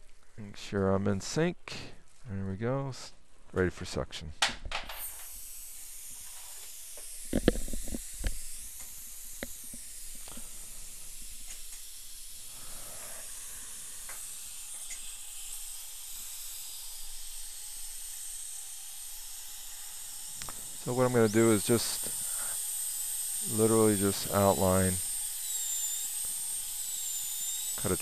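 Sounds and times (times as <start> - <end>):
dental drill whining: 4.7 - 28.0
suction hissing: 4.9 - 28.0.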